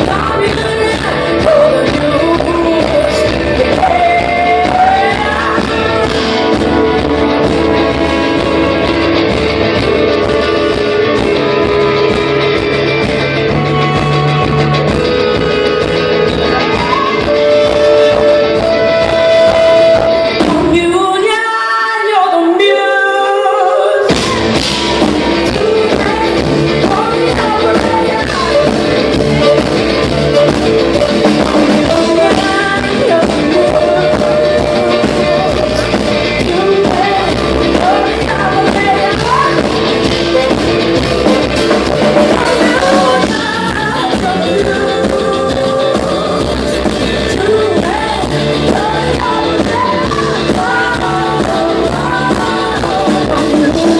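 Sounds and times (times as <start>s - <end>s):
woman singing: 0.0s - 12.4s, 13.5s - 53.9s
live rock band: 0.0s - 53.9s.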